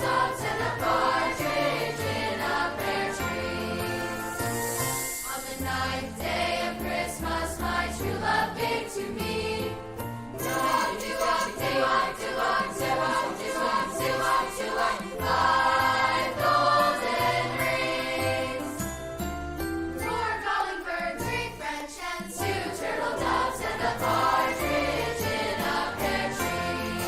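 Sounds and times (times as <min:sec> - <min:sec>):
choir singing: 0:00.0 - 0:19.0, 0:19.9 - 0:27.0
instrumental accompaniment: 0:00.0 - 0:27.0.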